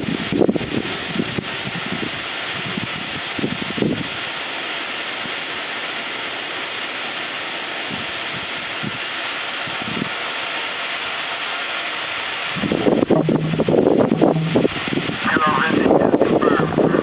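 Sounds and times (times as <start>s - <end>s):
rocket engine hissing rush: 0.0s - 17.0s.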